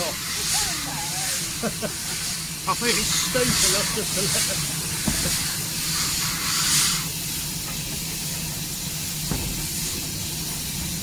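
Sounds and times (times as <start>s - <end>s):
locomotive rumbling on rails: 0.0s - 11.0s
steam hissing: 0.0s - 11.0s.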